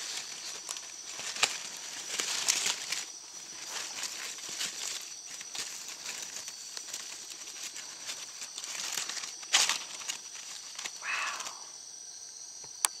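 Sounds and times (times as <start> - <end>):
dry leaves crackling and rustling: 0.0 - 11.7
night insects buzzing: 0.0 - 13.0.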